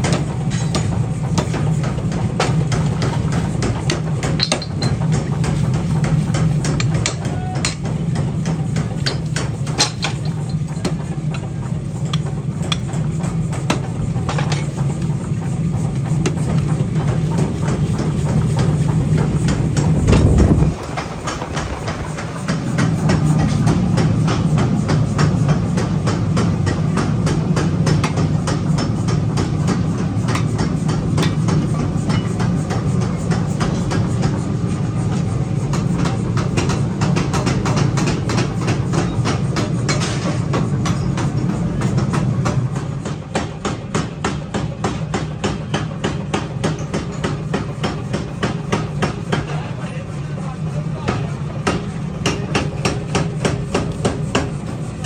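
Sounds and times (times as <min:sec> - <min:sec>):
power hammer pounding steel: 0:00.0 - 0:55.0
steady motor hum: 0:00.0 - 0:55.0.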